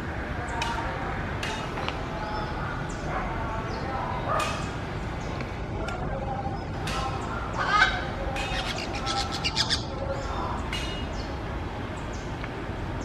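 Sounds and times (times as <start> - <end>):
birds calling: 1.4 - 13.0.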